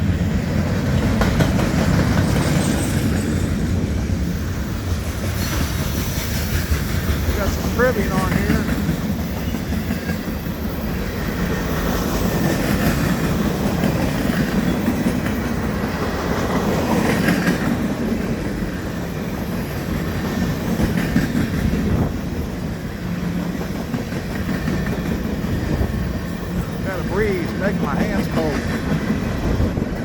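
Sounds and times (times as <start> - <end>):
freight train rumbling past: 0.0 - 30.0
wheels clacking over rail joints: 0.5 - 3.8, 4.8 - 30.0.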